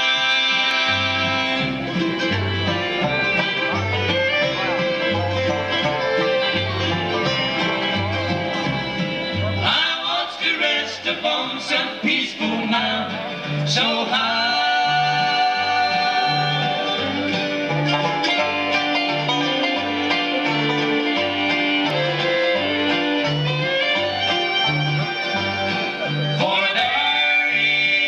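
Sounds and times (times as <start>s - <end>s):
upright bass walking line: 0.0s - 10.0s, 10.8s - 28.0s
banjo: 0.0s - 28.0s
bluegrass band playing: 0.0s - 28.0s
mandolin: 0.0s - 28.0s.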